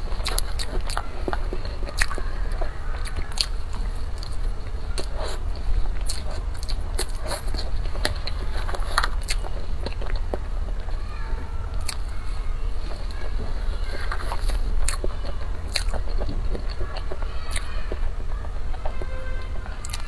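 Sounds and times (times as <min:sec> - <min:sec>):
chewing and mouth sounds: 0:00.0 - 0:19.1, 0:19.7 - 0:20.0.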